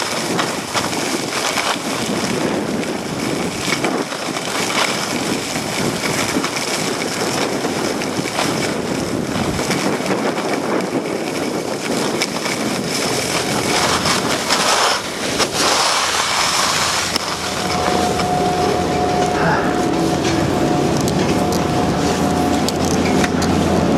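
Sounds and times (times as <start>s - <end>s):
snowblades scraping snow: 0.0s - 23.9s
wind on microphone: 0.0s - 23.9s.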